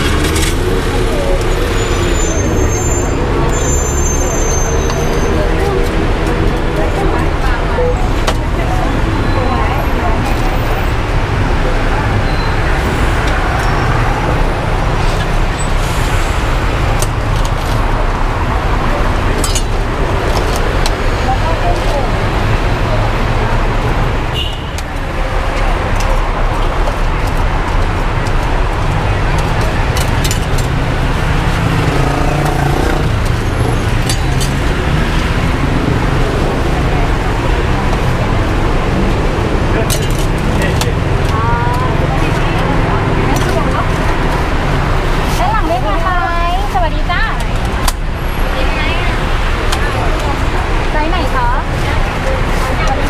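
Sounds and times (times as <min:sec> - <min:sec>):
faint voices: 0:00.0 - 0:53.0
street traffic rumble: 0:00.0 - 0:53.0.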